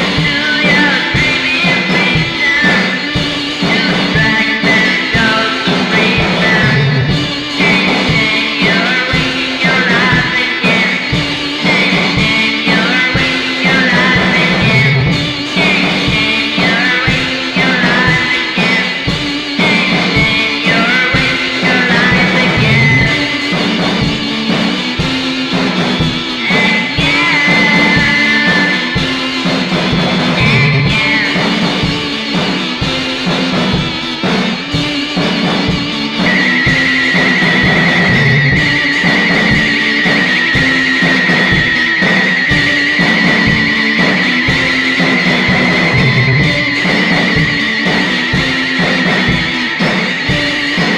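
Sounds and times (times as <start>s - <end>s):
garage rock song: 0.0s - 50.9s.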